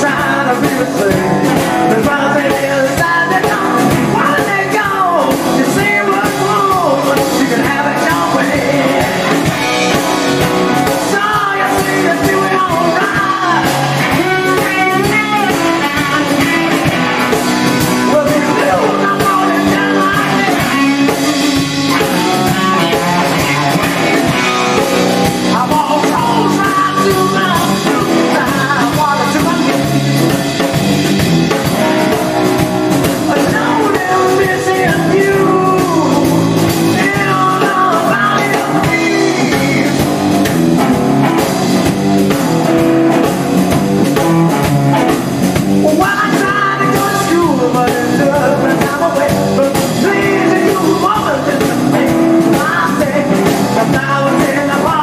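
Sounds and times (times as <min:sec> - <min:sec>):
person singing: 0:00.0 - 0:43.4, 0:45.8 - 0:55.0
guitar-led backing music: 0:00.0 - 0:55.0.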